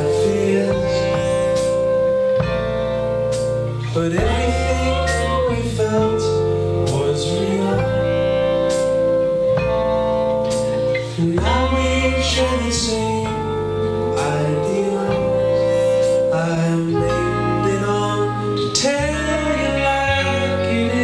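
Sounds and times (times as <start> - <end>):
held melody line bending in pitch: 0.0 - 21.0
live band playing: 0.0 - 21.0
steady bass line: 0.0 - 21.0.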